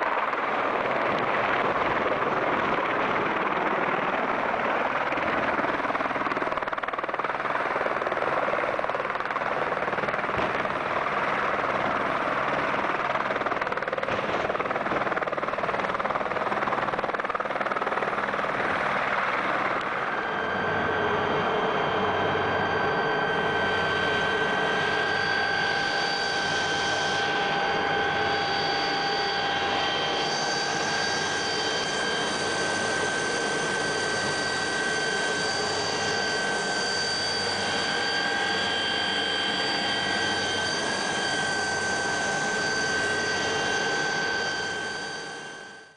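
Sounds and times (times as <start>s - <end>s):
helicopter rotor and turbine: 0.0s - 45.9s.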